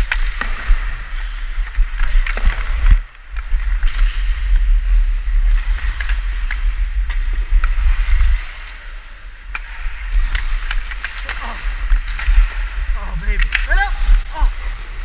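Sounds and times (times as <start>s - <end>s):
ice skates scraping: 0.0s - 15.0s
wind rumbling on microphone: 0.0s - 15.0s.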